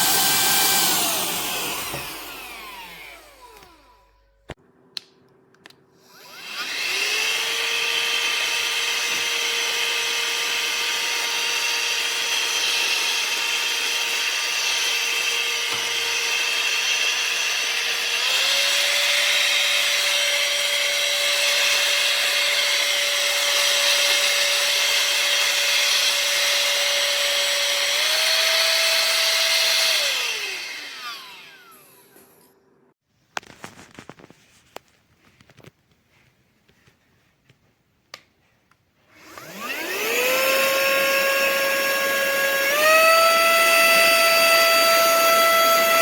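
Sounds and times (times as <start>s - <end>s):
handheld vacuum cleaner whine: 0.0s - 4.5s, 6.0s - 32.6s, 39.1s - 46.0s.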